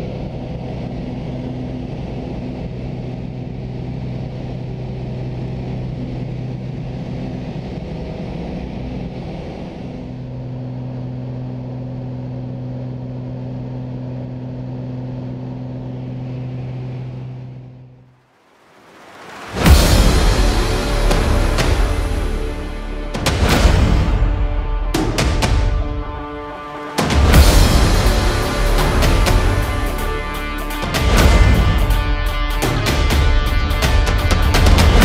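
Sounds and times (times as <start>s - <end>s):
small plane engine drone: 0.0s - 35.0s.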